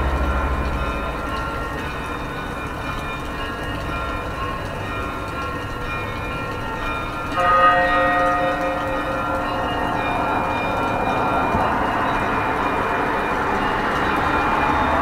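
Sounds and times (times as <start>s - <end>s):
church bells ringing: 0.0s - 15.0s
low city rumble: 0.0s - 15.0s.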